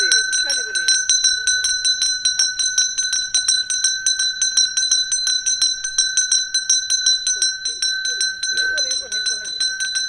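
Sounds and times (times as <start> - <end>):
metal bell rung rapidly: 0.0 - 10.0
steady high ringing tone: 0.0 - 10.0.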